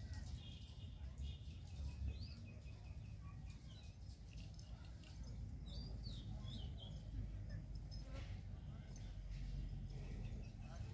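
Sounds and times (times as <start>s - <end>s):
small birds chirping: 0.0s - 7.9s, 8.7s - 10.9s.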